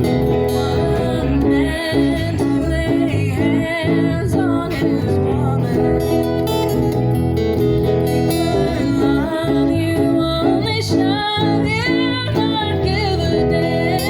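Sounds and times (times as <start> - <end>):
acoustic guitar strumming: 0.0 - 14.0
wordless melody line: 0.0 - 14.0.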